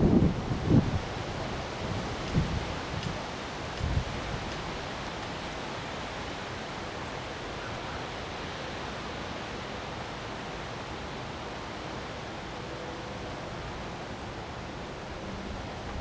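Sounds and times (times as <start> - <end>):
wind rushing through trees: 0.0 - 16.0.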